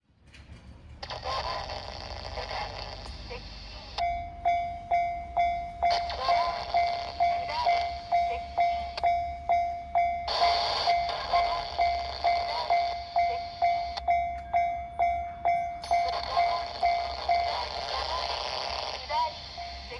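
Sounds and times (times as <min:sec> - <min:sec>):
level-crossing warning bell: 0:00.4 - 0:19.9.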